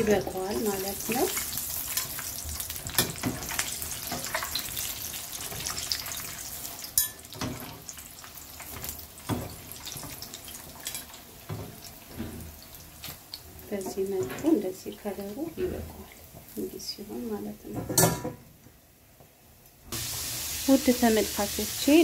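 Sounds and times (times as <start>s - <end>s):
donuts sizzling in hot oil: 0.0s - 17.6s, 19.9s - 22.0s.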